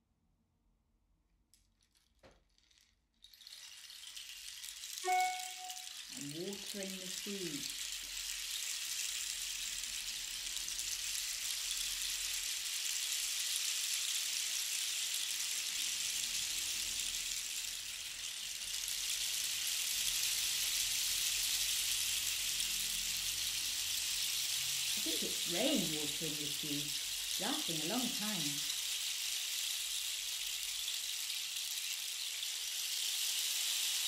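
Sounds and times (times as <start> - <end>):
rain stick trickling hiss: 1.6 - 34.0.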